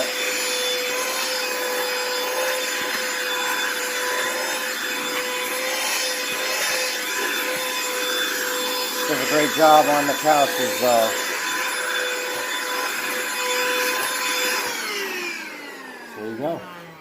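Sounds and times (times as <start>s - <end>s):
handheld vacuum running: 0.0s - 17.0s.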